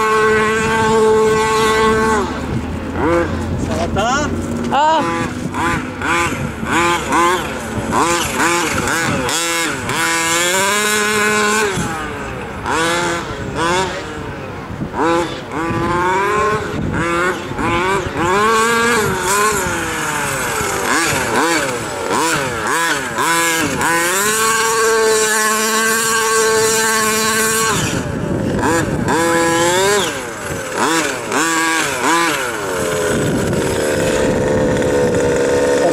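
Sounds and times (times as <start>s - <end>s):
rc truck engine revving: 0.0s - 35.9s.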